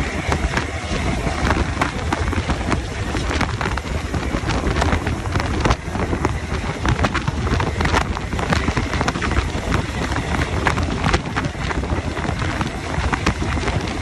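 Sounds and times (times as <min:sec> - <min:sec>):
truck diesel engine rumble: 0:00.0 - 0:14.0
wind buffeting microphone: 0:00.0 - 0:14.0.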